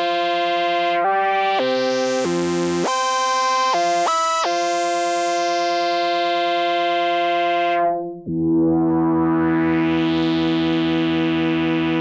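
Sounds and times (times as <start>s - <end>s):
synthesizer pad chords: 0.0s - 12.0s.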